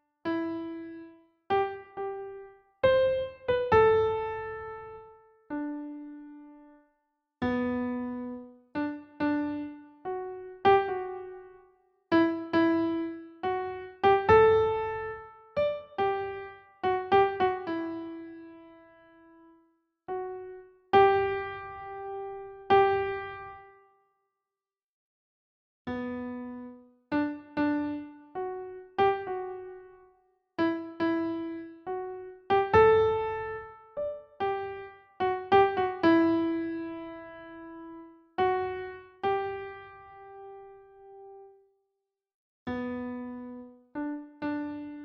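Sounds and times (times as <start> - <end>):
electric piano melody: 0.3 - 6.7, 7.4 - 19.4, 20.1 - 23.7, 25.9 - 30.0, 30.6 - 41.5, 42.7 - 45.0.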